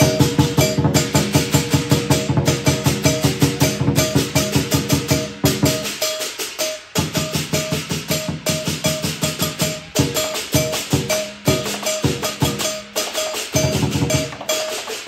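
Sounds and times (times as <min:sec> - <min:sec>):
drum and cymbals beating fast: 0:00.0 - 0:15.0.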